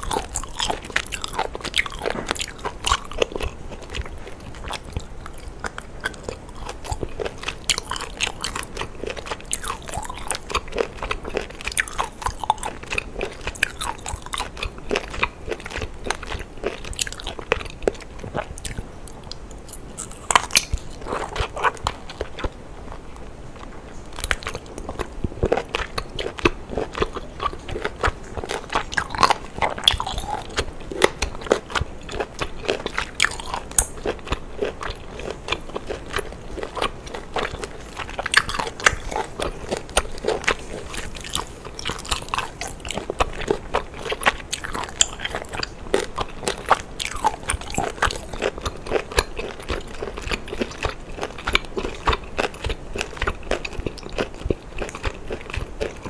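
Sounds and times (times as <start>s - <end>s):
person chewing with mouth clicks: 0.0s - 56.0s.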